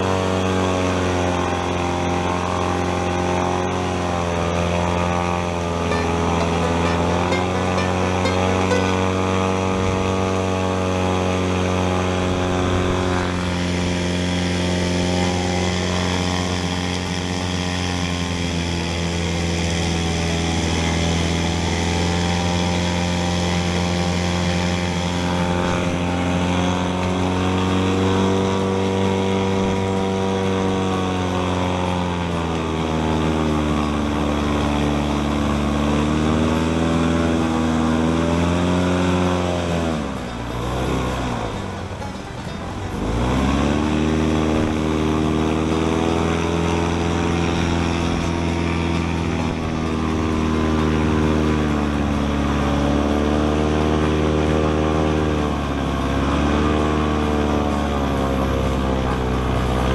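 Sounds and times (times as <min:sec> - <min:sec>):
airboat engine and propeller roaring: 0:00.0 - 0:59.9.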